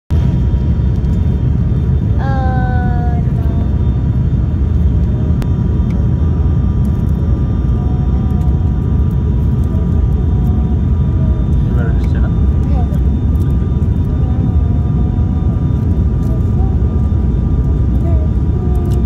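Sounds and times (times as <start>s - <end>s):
airliner engine rumble: 0.1s - 19.0s.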